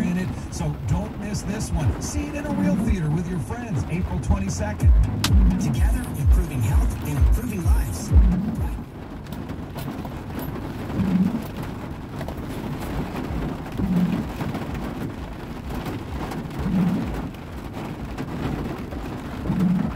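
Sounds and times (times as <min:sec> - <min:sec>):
heavy rain on vehicle roof: 0:00.0 - 0:19.9.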